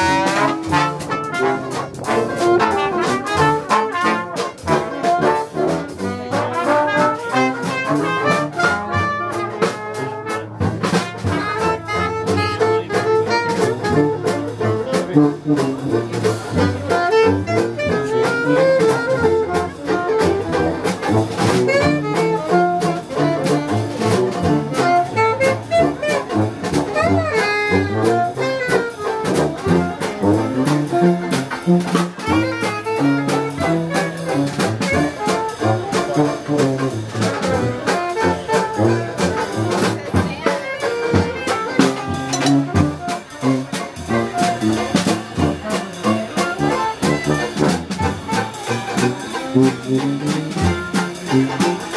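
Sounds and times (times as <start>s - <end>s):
jazz band playing: 0.0s - 51.9s.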